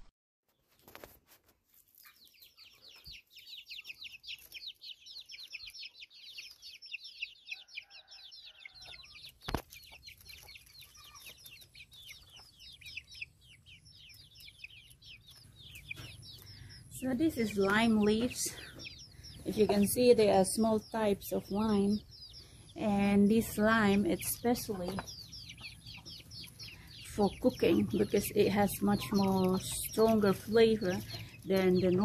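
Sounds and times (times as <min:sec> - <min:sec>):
birds chirping: 0:01.7 - 0:32.0.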